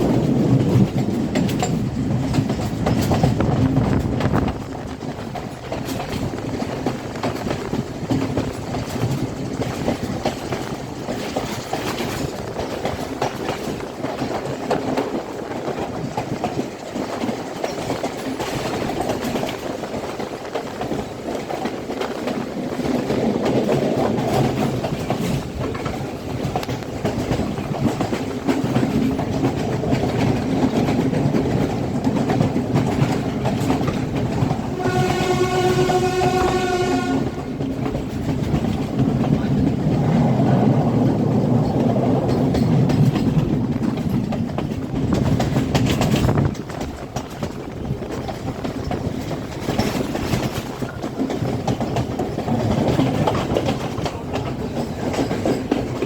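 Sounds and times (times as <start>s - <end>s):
train carriages rumbling: 0.0s - 56.0s
wheels clicking over rail joints: 0.0s - 56.0s.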